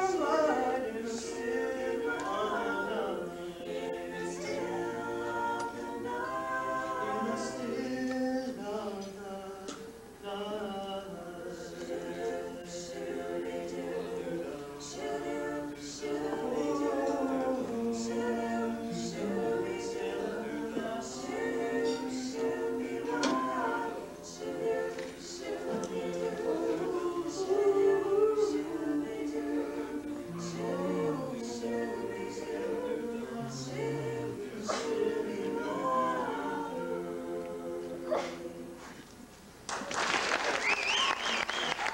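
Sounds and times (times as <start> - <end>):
group singing a cappella: 0.0 - 39.3.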